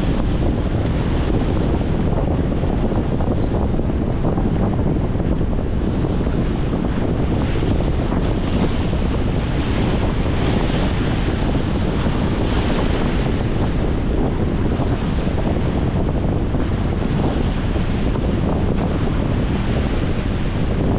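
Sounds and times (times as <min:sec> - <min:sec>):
waves splashing against concrete: 0:00.0 - 0:20.9
wind buffeting microphone: 0:00.0 - 0:20.9.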